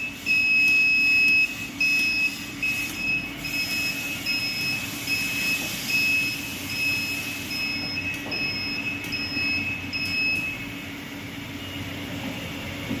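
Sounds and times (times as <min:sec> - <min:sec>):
electronic buzzer beeping: 0:00.0 - 0:10.6
machine hum and hiss: 0:00.0 - 0:13.0.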